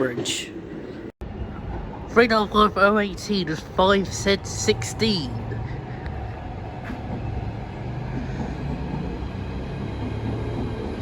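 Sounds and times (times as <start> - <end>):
rail noise: 0.0 - 11.0
electric train low hum: 0.5 - 11.0.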